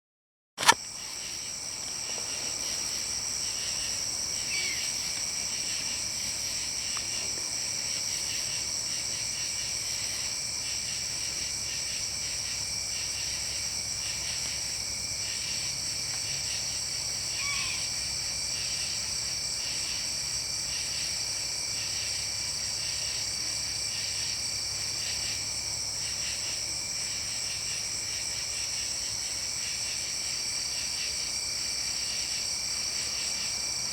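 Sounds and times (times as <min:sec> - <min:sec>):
insects trilling: 0:00.6 - 0:33.9.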